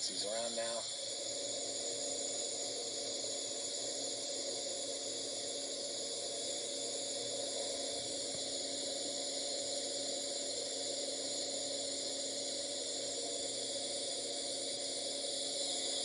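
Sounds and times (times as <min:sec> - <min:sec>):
lathe running with hiss and hum: 0:00.0 - 0:16.0.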